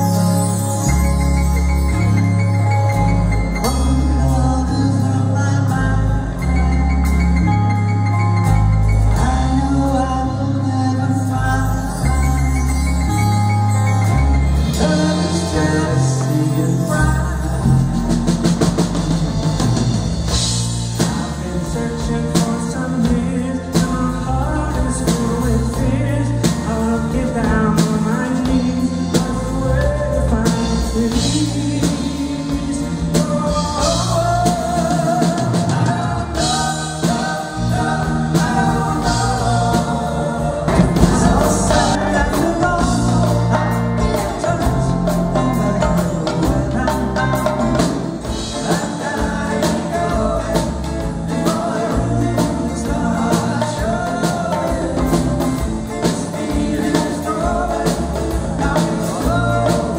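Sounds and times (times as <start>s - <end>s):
live band playing: 0.0s - 59.9s
person singing lead vocal: 2.8s - 18.8s, 20.8s - 59.9s.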